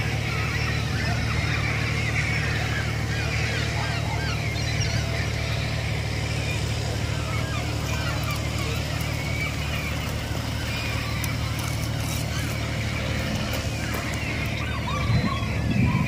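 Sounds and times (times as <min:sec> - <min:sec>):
low engine drone: 0:00.0 - 0:16.0.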